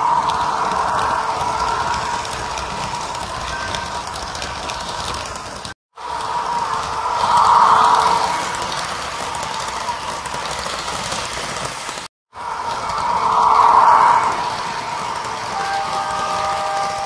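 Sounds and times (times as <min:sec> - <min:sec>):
model train motor whine: 0:00.0 - 0:17.0
wheels rattling over rail joints: 0:00.0 - 0:17.0.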